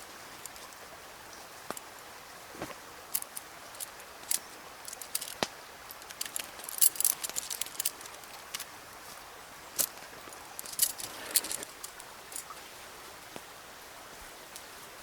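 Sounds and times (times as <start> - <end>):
light clicks and crackles: 0.3 - 12.6.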